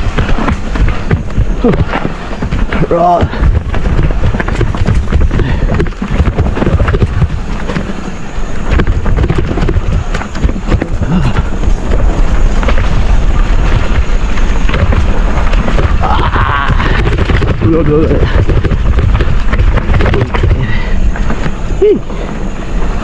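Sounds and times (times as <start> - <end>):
bike rattling over rough ground: 0.0 - 23.0
wind buffeting microphone: 0.0 - 23.0.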